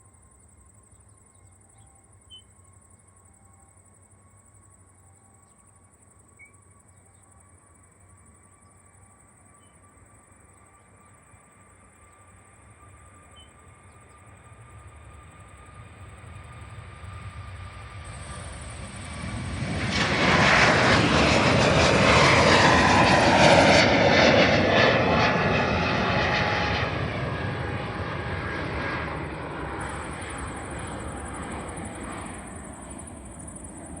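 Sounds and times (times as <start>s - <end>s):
jet engines during takeoff: 0.0s - 34.0s.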